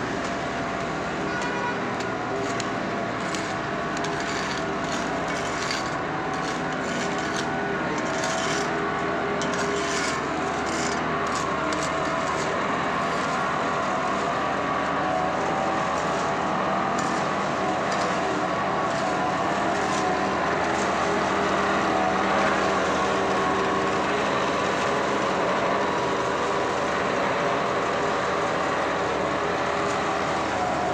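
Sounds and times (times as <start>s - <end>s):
diesel engine running: 0.0s - 30.9s
rakes and shovels scraping asphalt: 0.1s - 30.9s.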